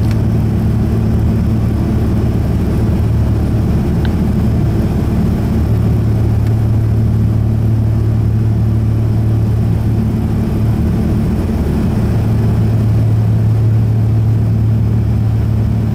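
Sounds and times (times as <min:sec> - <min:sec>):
turboprop engines droning: 0:00.0 - 0:15.9.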